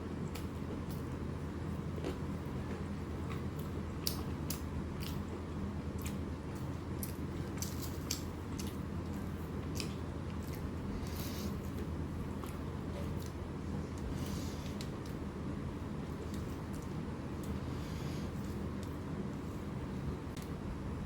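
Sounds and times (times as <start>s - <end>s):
steady low hum: 0.0s - 21.0s
chewing and eating: 0.1s - 15.3s, 16.0s - 19.7s.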